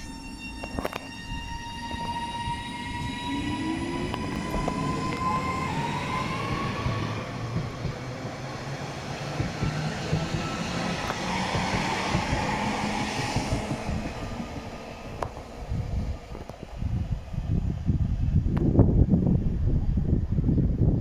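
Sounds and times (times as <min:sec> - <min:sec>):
electric train motors whining: 0:00.0 - 0:17.5
wheels rumbling on rails: 0:00.0 - 0:21.0.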